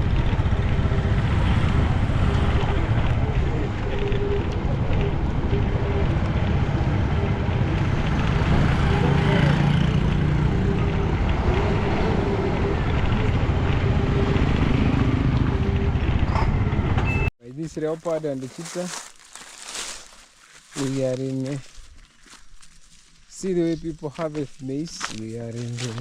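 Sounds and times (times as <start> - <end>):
vehicle running: 0.0 - 26.0.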